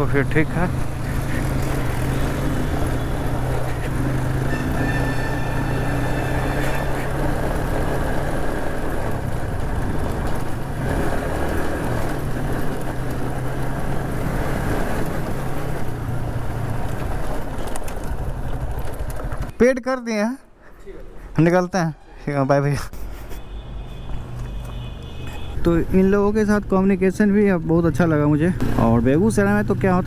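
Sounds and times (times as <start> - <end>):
motorcycle engine hum: 0.0 - 19.5, 23.5 - 30.0
road noise: 0.0 - 30.0.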